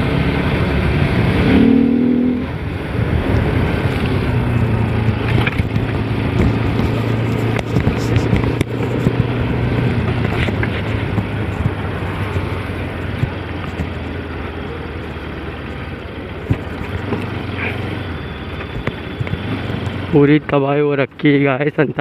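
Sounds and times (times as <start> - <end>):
motorcycle engine running: 0.0 - 20.8
road noise: 0.0 - 22.0.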